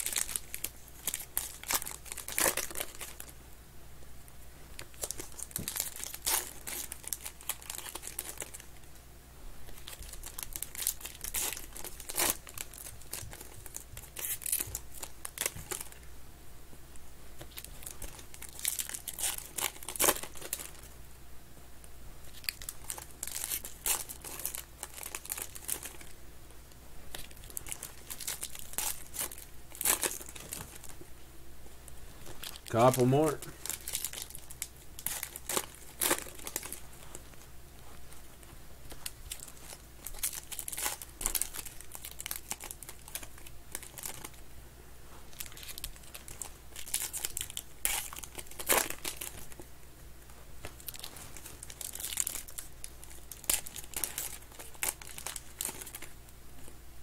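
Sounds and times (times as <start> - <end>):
foil wrappers crinkling and tearing: 0.0 - 3.4, 4.8 - 8.9, 9.7 - 16.1, 17.4 - 20.9, 22.3 - 26.2, 27.1 - 31.1, 32.2 - 44.4, 45.2 - 49.7, 50.6 - 56.3.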